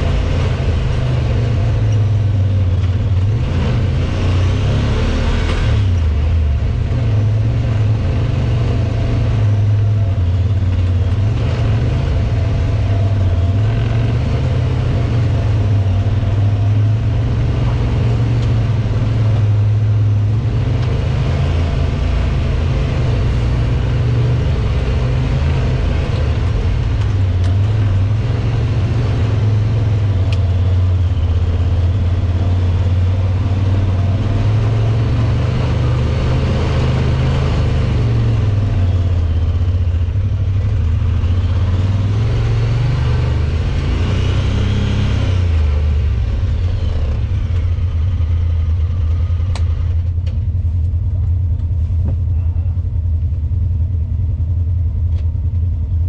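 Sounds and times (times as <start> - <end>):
utility vehicle engine drone: 0.0 - 56.0.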